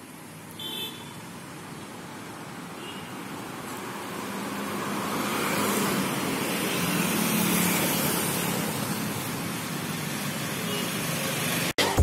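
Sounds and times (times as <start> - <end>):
car and motorbike engines: 0.0 - 12.0.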